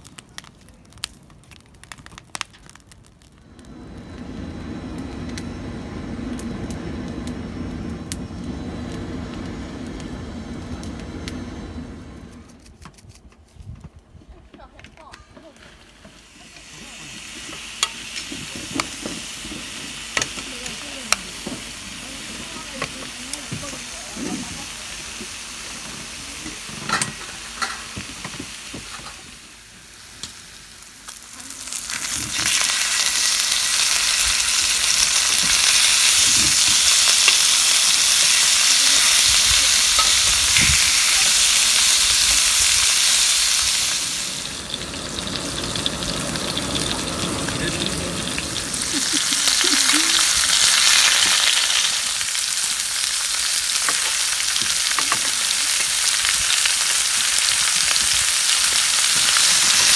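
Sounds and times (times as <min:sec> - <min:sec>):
meat sizzling over wood fire: 0:00.0 - 0:13.2, 0:15.0 - 0:59.9.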